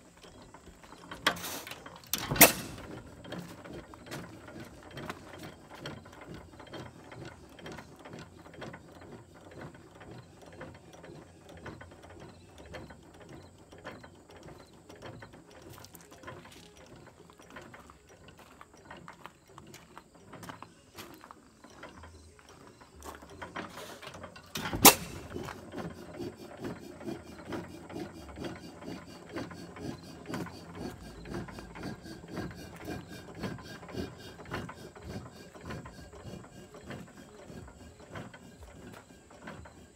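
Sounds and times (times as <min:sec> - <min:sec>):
hit-and-miss engine clattering: 0:00.0 - 0:39.9.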